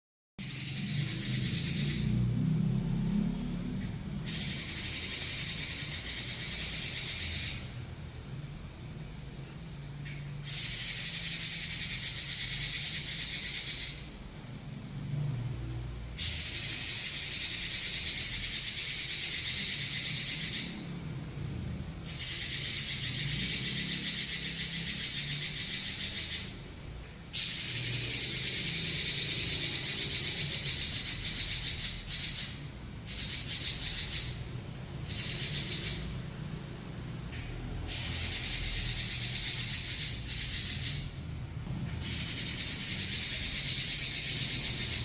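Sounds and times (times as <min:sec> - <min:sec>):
bird singing rolling trills: 0:00.4 - 0:14.9, 0:15.5 - 0:45.0.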